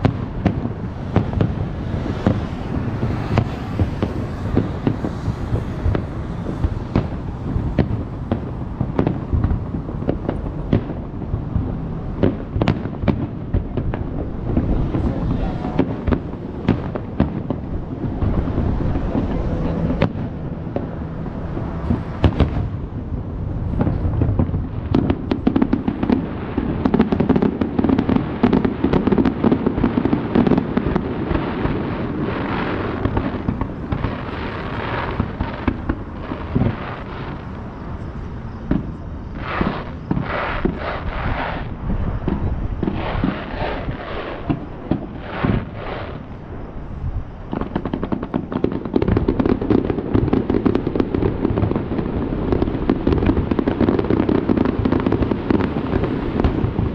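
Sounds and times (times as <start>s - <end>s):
continuous low rumble: 0.0s - 56.9s
fireworks bangs and crackles: 0.0s - 56.9s.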